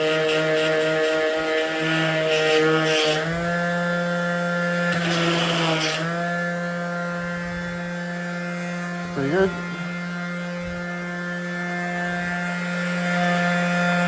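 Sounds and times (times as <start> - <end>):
electric sander whining: 0.0 - 14.0
sandpaper rasping on wood: 0.0 - 14.0.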